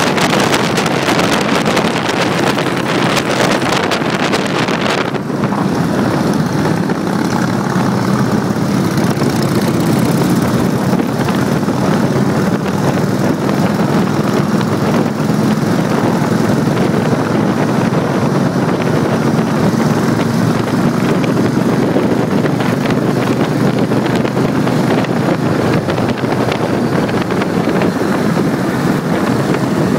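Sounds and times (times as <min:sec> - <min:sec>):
motorcycle engines running: 0:00.0 - 0:29.9
wind on microphone: 0:00.0 - 0:29.9.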